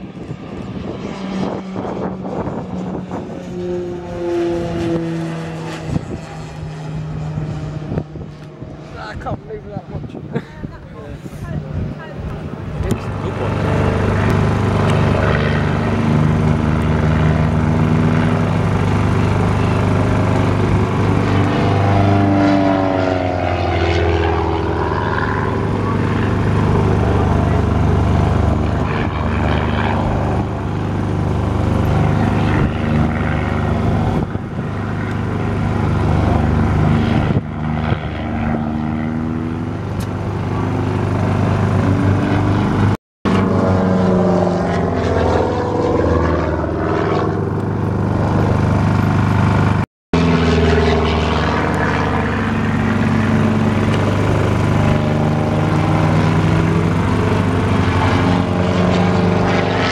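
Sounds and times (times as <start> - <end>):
biplane engine and propeller: 0.0 - 59.9.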